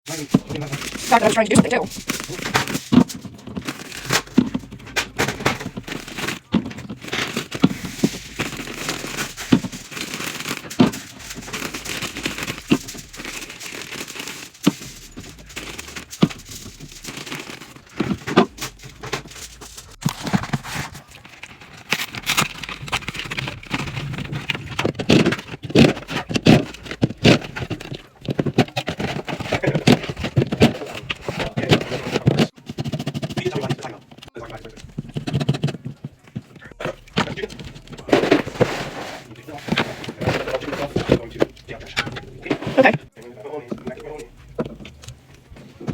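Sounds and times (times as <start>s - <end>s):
plastic packaging crinkling and tearing: 0.1s - 32.6s, 33.4s - 45.9s.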